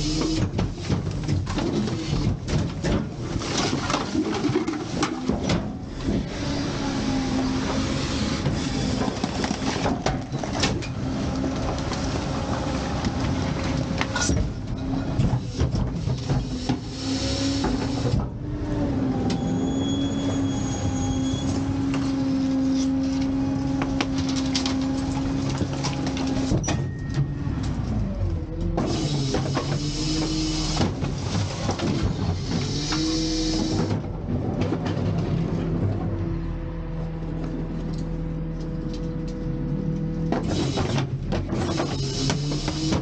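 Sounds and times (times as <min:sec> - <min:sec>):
truck engine and hydraulic pump drone: 0:00.0 - 0:43.0.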